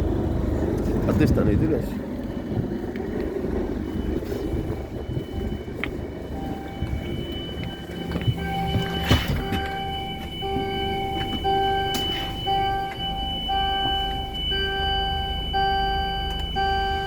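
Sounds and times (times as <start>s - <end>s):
diesel engine running: 0.0s - 17.0s
bus warning beeper: 1.8s - 17.0s.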